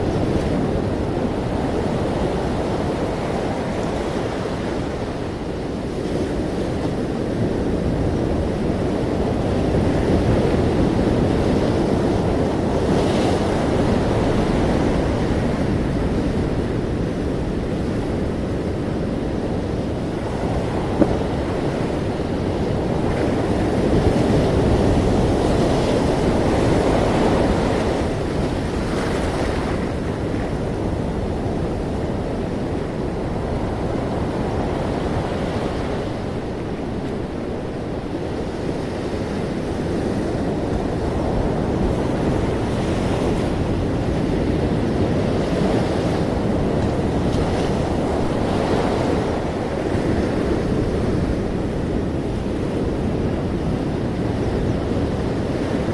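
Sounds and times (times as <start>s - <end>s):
ocean waves washing onto shore: 0.0s - 55.9s
wind noise on microphone: 0.0s - 55.9s.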